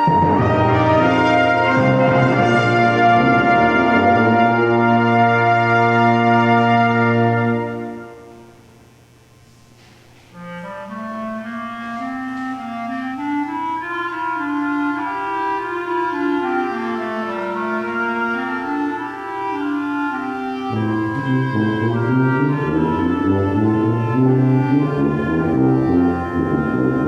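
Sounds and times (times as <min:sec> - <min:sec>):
woodwind ensemble music: 0:00.0 - 0:08.6, 0:10.3 - 0:27.0.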